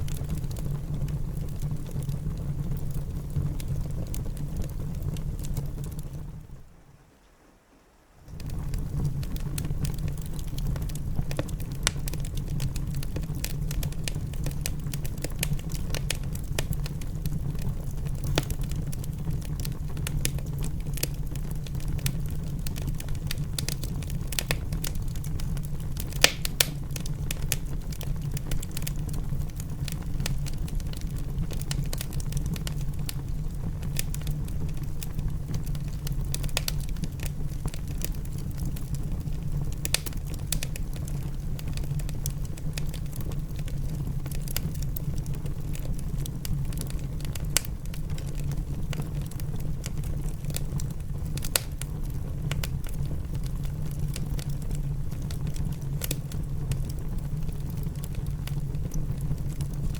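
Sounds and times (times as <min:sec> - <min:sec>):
wood fire crackling and popping: 0:00.0 - 0:06.7, 0:08.2 - 0:59.9.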